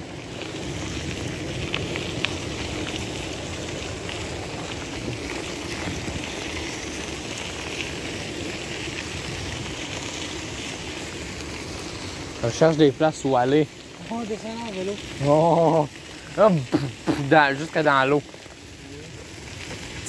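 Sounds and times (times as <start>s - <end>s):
bicycle tyres crunching on gravel: 0.0s - 20.0s.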